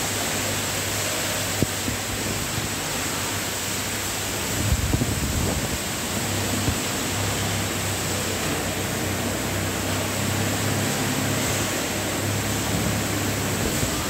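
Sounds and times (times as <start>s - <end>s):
factory machines running: 0.0s - 14.0s.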